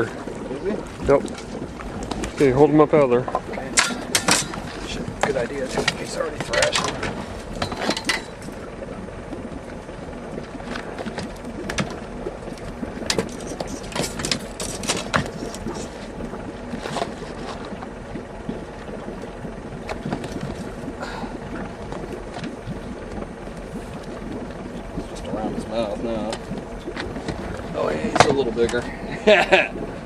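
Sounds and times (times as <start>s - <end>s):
boat motor humming: 0.0s - 30.0s.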